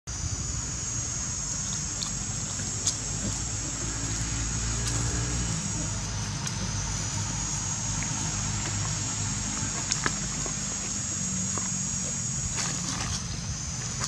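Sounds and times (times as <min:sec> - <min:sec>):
high-pitched drone: 0:00.1 - 0:14.0
vehicle engine humming: 0:00.1 - 0:14.0.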